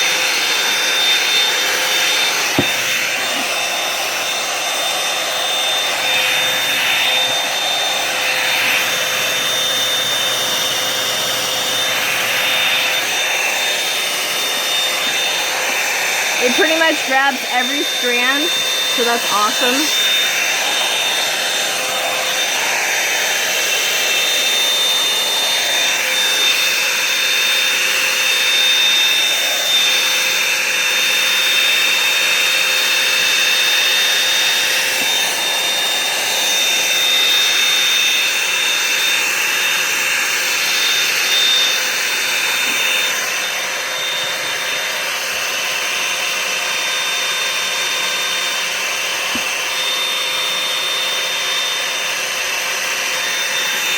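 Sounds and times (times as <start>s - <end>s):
hot-air brush dryer running: 0.0s - 53.9s.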